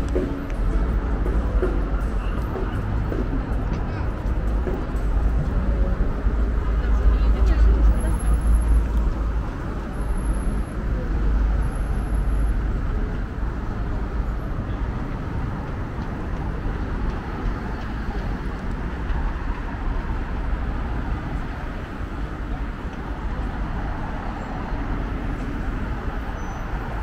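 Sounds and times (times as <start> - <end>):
city street traffic rumble: 0.0 - 27.0.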